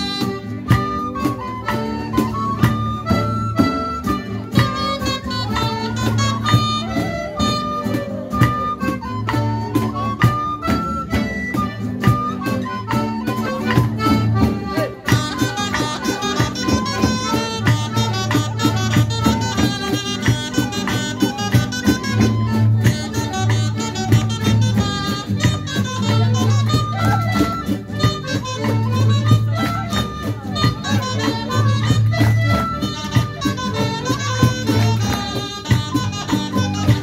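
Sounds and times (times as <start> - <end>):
accordion: 0.0 - 37.0
acoustic guitar: 0.0 - 37.0
small wind pipes melody: 0.0 - 37.0.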